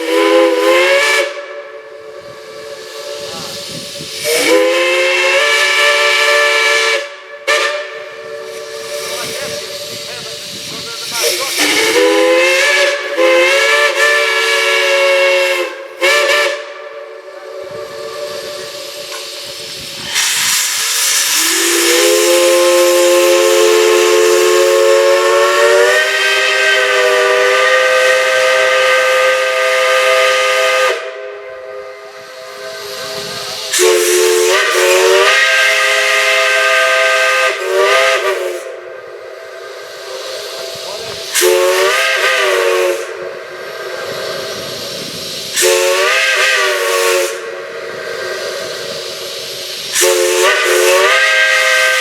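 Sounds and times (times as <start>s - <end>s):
steam whistle blasts: 0.0s - 10.1s, 11.2s - 19.4s, 20.1s - 52.0s
steam hissing: 0.0s - 52.0s.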